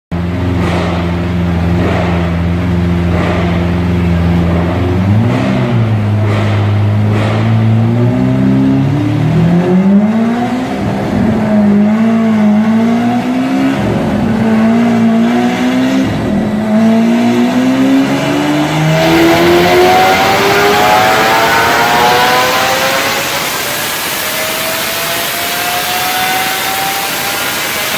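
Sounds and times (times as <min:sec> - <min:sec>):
sports car engine revving: 0:00.2 - 0:27.9.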